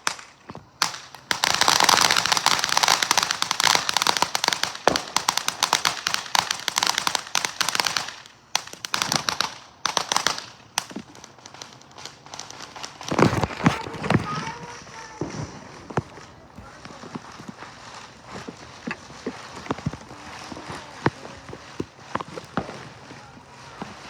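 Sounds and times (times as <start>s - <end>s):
firecrackers popping: 0.0s - 24.0s.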